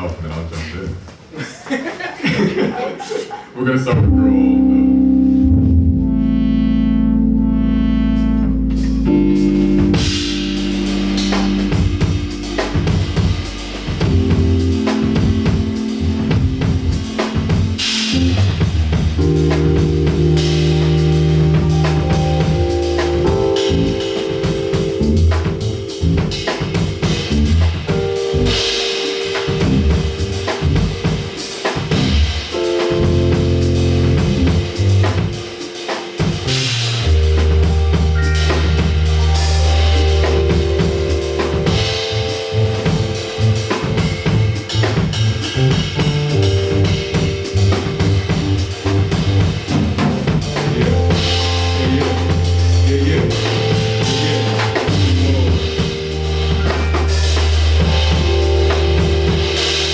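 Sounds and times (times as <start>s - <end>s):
live band playing: 3.9s - 59.9s.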